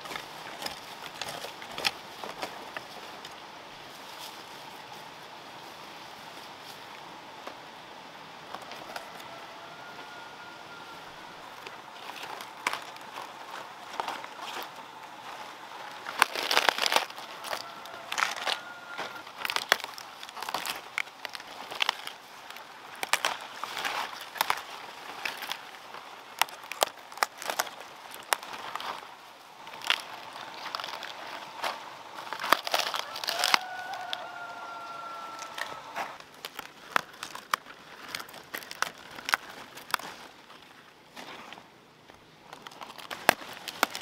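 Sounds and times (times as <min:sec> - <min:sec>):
cabbage leaves snapping and crunching: 0:00.0 - 0:05.2, 0:08.5 - 0:44.0.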